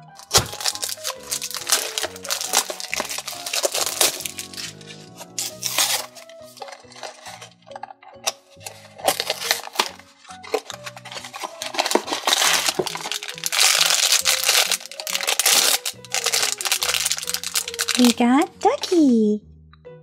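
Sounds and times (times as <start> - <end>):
background music: 0.0 - 20.0
cardboard box torn open: 0.2 - 7.5, 8.7 - 18.0
foil bag crinkling: 0.2 - 7.6, 8.5 - 19.1.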